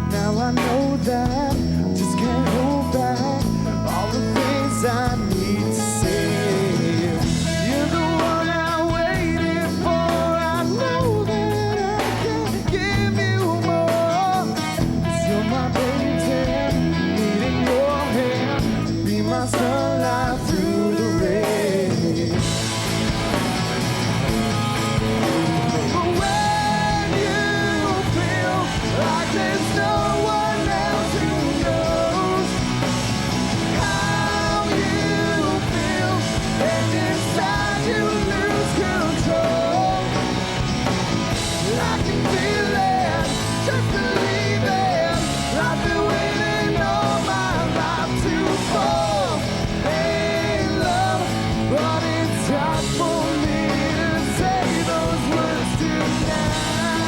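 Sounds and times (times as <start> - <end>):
melodic guitar lead line: 0.0 - 57.0
rock band playing: 0.0 - 57.0.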